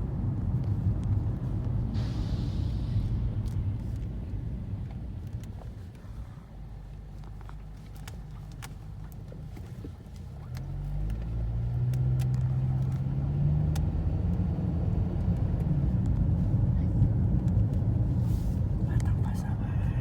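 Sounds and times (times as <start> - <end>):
car engine running: 0.0 - 1.9, 2.6 - 20.0.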